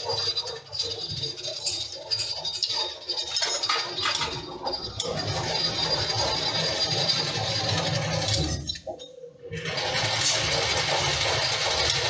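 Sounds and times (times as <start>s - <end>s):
lathe tool scraping metal: 0.0s - 12.0s.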